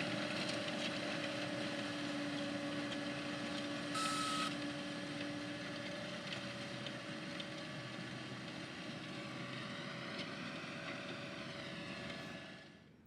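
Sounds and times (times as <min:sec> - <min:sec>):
diesel farm machinery running: 0:00.0 - 0:12.9.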